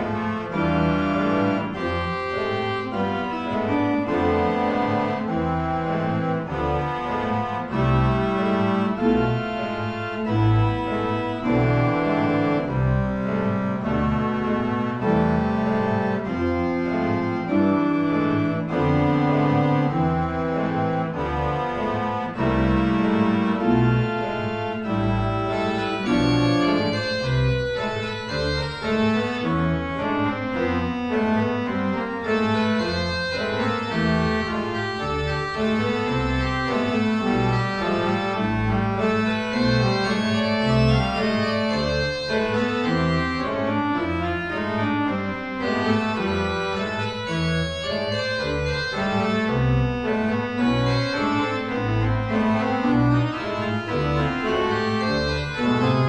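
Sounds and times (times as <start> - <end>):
pipe organ chords: 0.0 - 56.0.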